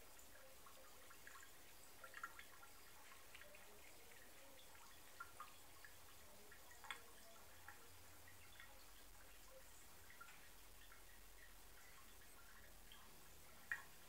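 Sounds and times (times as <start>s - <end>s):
water drips plinking in bathtub: 0.0s - 14.0s.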